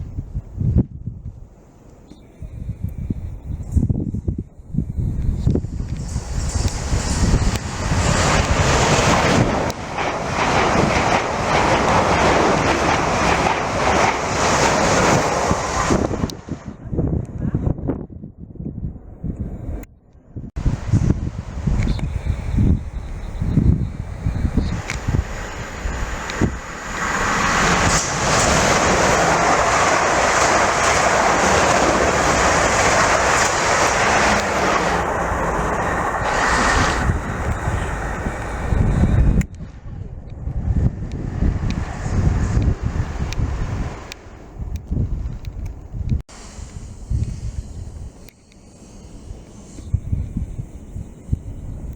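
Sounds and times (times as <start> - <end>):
wind buffeting microphone: 0.0 - 48.3, 49.1 - 51.9
train passing at speed: 5.3 - 17.1, 20.6 - 51.9.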